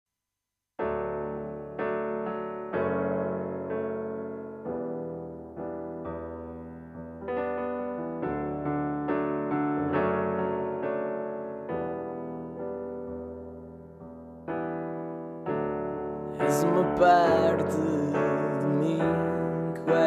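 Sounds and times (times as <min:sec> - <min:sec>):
slow piano chords: 0:00.8 - 0:20.0.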